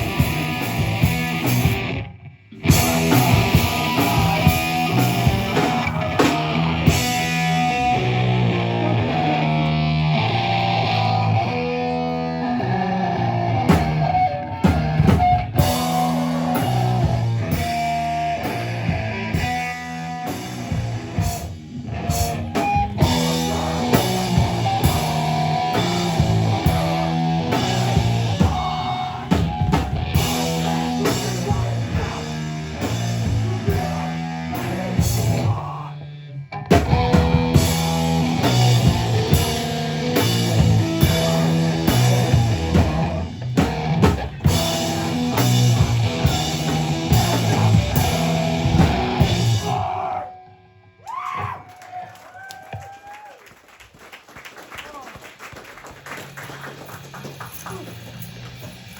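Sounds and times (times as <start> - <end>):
live rock band playing: 0.0 - 51.6, 56.2 - 58.9.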